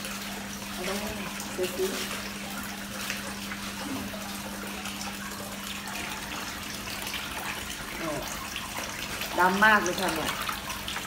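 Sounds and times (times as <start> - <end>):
water pouring into plastic bucket: 0.0 - 11.0.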